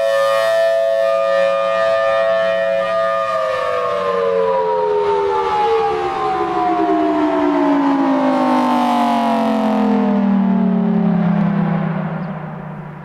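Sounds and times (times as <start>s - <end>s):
mechanical siren winding down: 0.0s - 13.0s.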